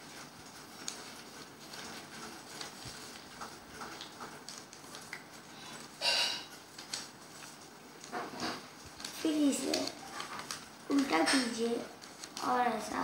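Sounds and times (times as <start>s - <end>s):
paper crinkle: 0.0s - 13.0s
paper folding and rustling: 0.0s - 13.0s.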